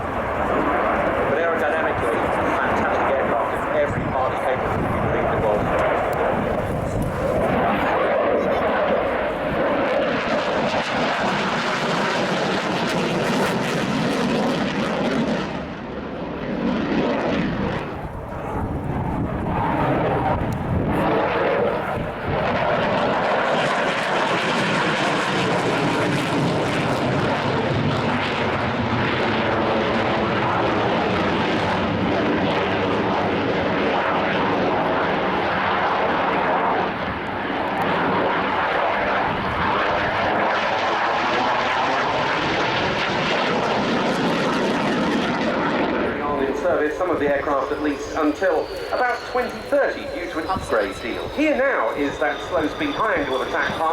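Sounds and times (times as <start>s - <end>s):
jet engine roar: 0.0s - 53.9s.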